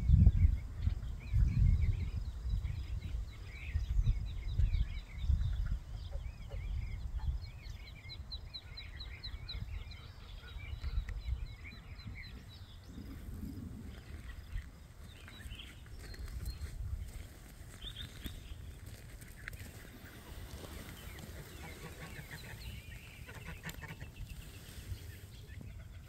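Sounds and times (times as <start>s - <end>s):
birds chirping and warbling: 0.0s - 26.0s
wind on microphone: 0.0s - 26.0s.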